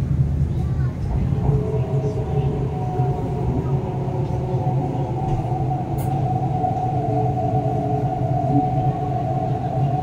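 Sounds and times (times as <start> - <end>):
electric train hum and whine: 0.0 - 10.0.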